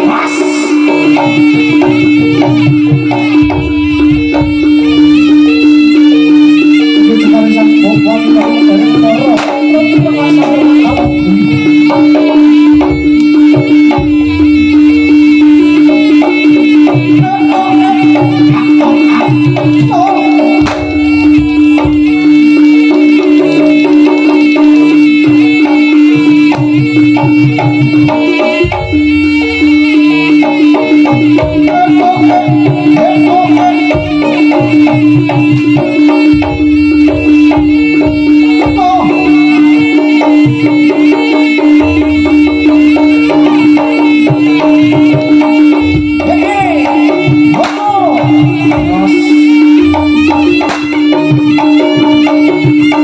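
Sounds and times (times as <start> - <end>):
hand drums: 0.0 - 53.0
gamelan ensemble music: 0.1 - 53.0.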